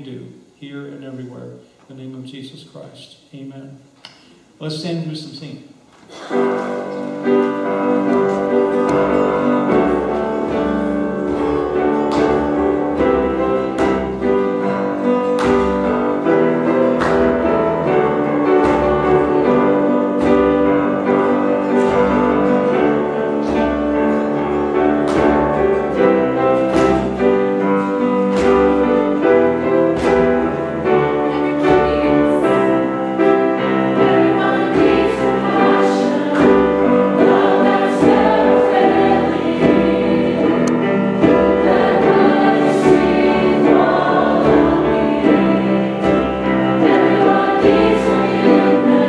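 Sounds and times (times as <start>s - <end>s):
piano playing chords: 6.3s - 49.0s.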